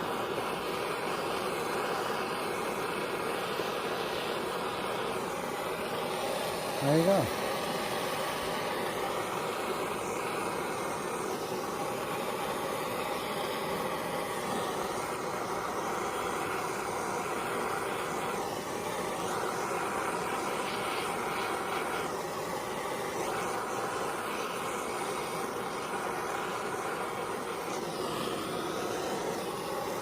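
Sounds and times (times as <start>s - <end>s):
blowtorch flame blowing: 0.0s - 30.0s.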